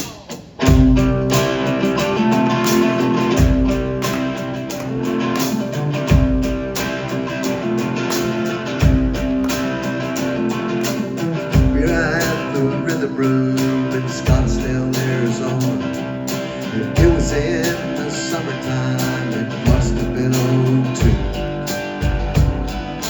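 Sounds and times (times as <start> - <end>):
live band playing country music: 0.0 - 23.0
strummed guitars: 0.0 - 23.0.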